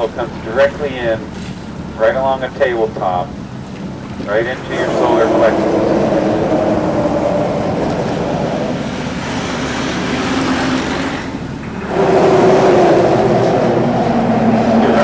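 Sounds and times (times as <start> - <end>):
outboard motor running: 0.0 - 15.0
water splashing: 0.0 - 15.0
wind: 0.0 - 15.0.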